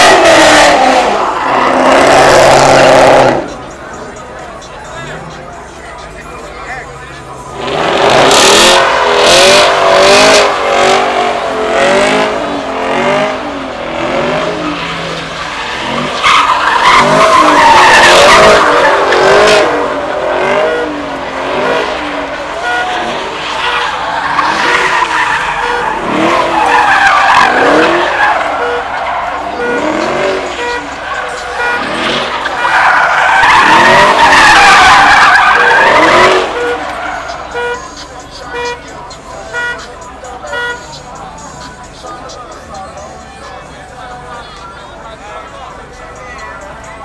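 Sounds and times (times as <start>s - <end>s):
car engine revving: 0.0s - 47.0s
tyres squealing: 0.0s - 47.0s.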